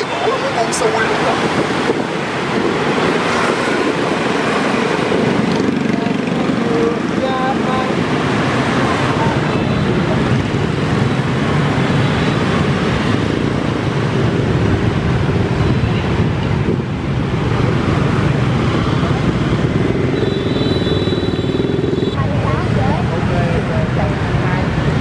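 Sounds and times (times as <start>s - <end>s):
wind buffeting microphone: 0.0s - 20.2s
motorbikes passing: 0.0s - 25.0s.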